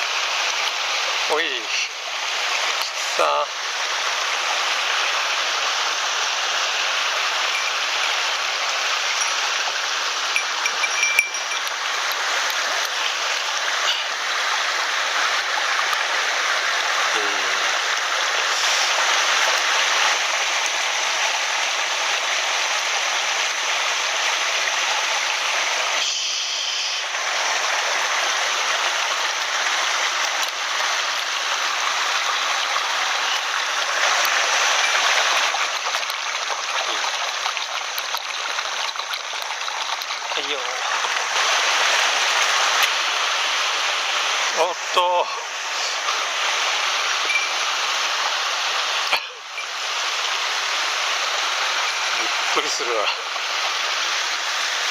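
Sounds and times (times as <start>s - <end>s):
stream water rushing: 0.0s - 54.9s.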